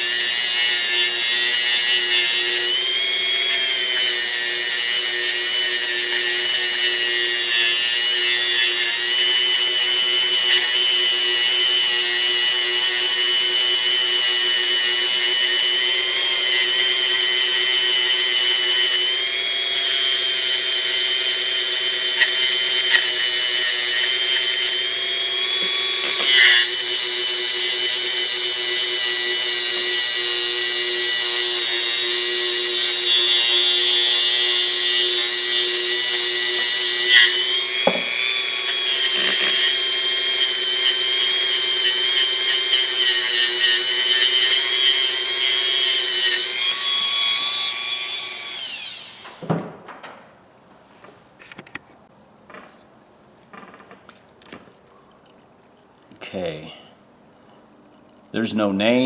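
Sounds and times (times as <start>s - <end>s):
power tool high whine: 0.0s - 49.4s.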